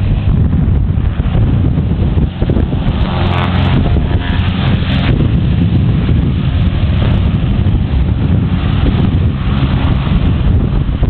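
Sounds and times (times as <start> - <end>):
distant propeller plane drone: 0.0 - 11.0
wind buffeting microphone: 0.0 - 11.0.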